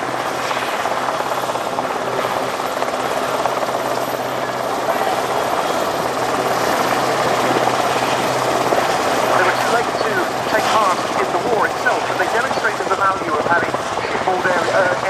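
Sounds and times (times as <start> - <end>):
helicopter rotor beat: 0.0 - 15.0.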